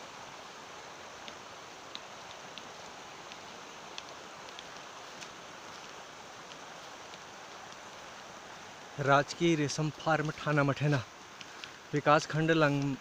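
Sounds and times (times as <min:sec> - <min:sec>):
faint high-pitched ticks: 0:00.8 - 0:08.0, 0:09.2 - 0:13.0.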